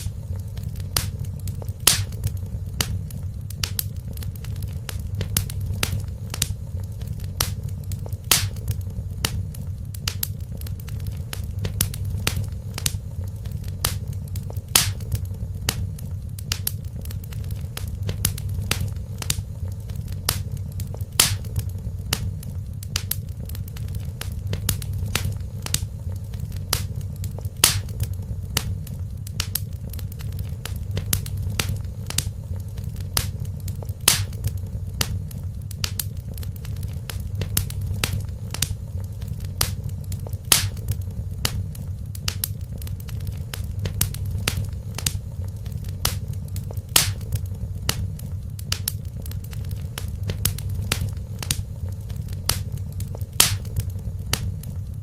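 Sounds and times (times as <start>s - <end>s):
low rumble of flame: 0.0s - 55.0s
wood fire crackling: 0.0s - 55.0s.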